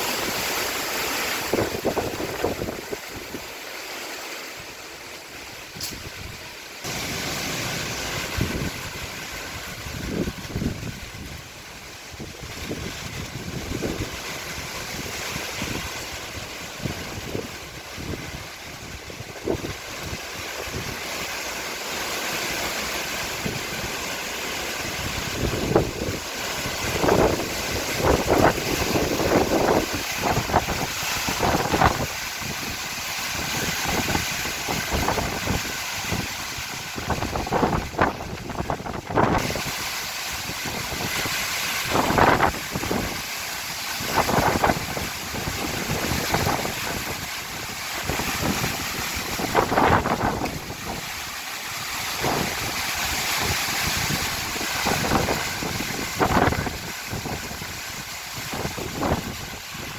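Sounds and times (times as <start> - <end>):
strong wind gusts on microphone: 1.1 - 3.5, 5.7 - 21.1, 24.8 - 59.9.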